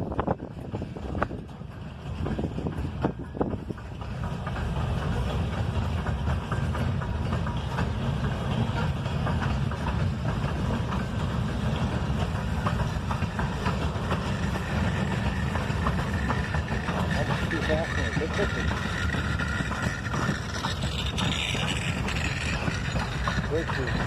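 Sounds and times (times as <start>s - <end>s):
freight train rumbling past: 0.0s - 24.0s
wheels clanking over rails: 0.0s - 24.0s.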